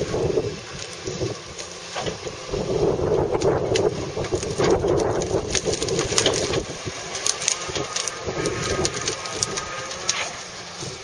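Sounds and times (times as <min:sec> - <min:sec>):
baler machine running: 0:00.0 - 0:11.0
branches cracking and snapping: 0:00.1 - 0:11.0.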